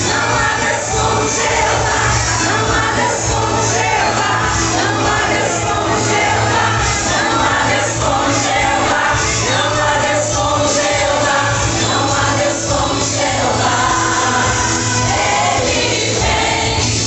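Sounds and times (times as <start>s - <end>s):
choir singing gospel: 0.0s - 17.0s.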